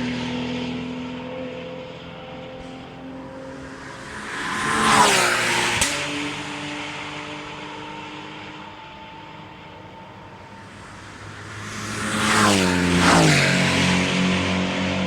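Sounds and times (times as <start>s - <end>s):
race car engine: 0.0s - 15.0s
race cars passing: 0.0s - 15.0s.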